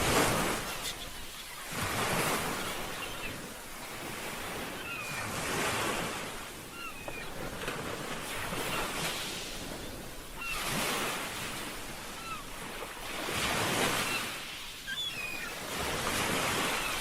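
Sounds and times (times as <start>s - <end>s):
sea waves washing onto shore: 0.0s - 17.0s.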